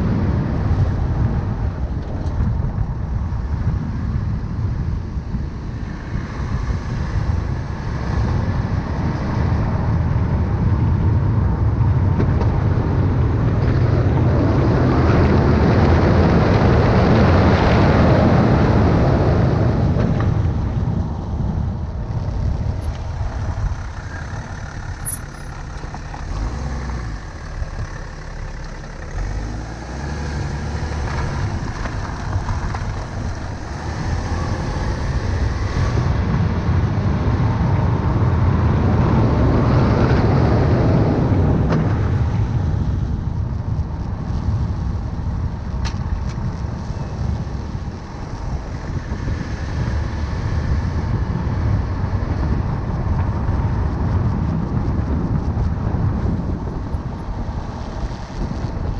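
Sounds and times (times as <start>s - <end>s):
tyre and road noise: 0.0s - 58.9s
wind rush: 0.0s - 58.9s.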